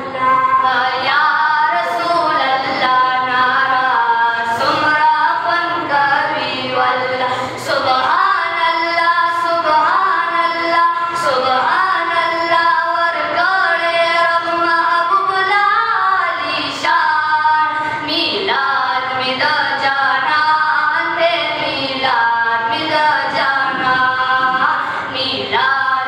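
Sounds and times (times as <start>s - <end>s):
young voices singing unaccompanied: 0.0s - 26.0s.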